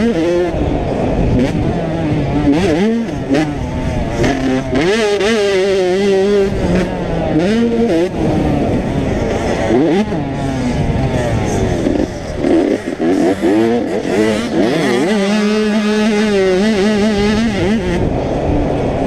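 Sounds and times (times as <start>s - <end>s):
two-stroke motorbike engine revving: 0.0s - 19.0s.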